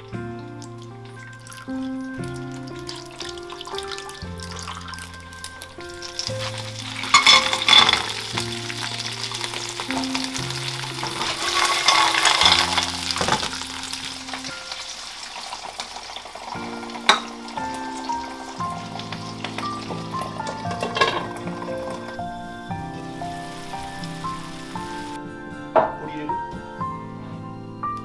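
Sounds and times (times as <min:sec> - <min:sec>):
background music: 0:00.0 - 0:28.0
clams sizzling in hot oil: 0:00.8 - 0:25.2.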